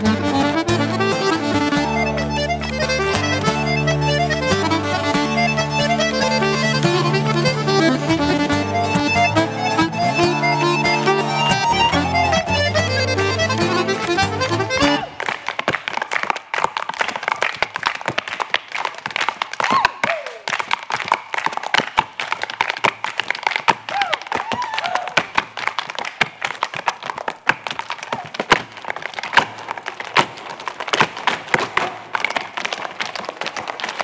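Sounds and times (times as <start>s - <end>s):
hard shoes tapping on stage floor: 0.0s - 34.0s.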